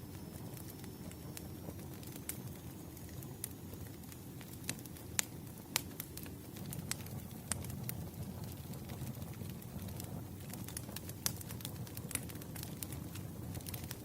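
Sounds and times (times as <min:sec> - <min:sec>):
low rumble of burning: 0:00.0 - 0:14.0
wood fire crackling: 0:00.0 - 0:14.0.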